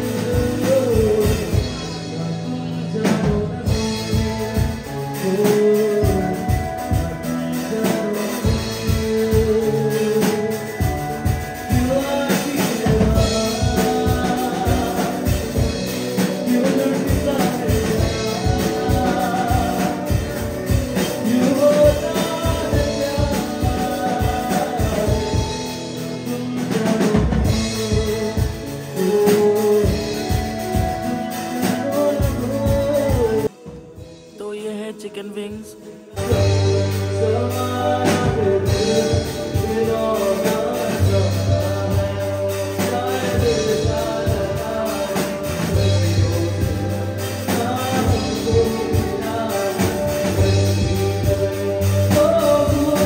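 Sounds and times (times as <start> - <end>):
electric guitar: 0.0 - 34.3, 35.0 - 53.0
keyboard: 0.0 - 53.0
man singing: 0.0 - 53.0
drum beat: 3.2 - 25.8, 26.4 - 53.0.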